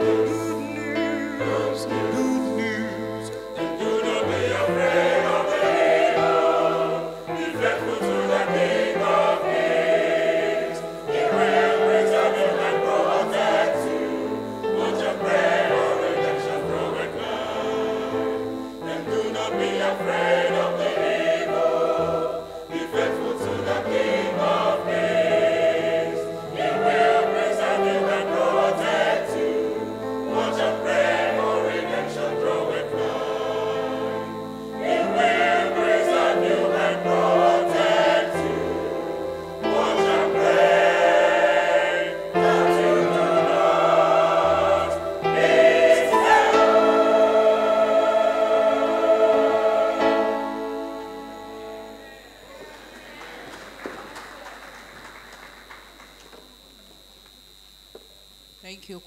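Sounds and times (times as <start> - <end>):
choir singing in harmony: 0.0 - 54.2.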